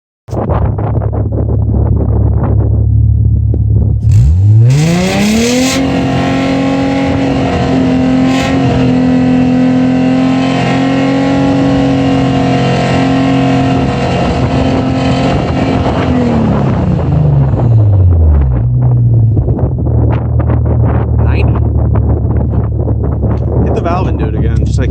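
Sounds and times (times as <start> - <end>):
car exhaust idling and revving: 0.3 - 24.9.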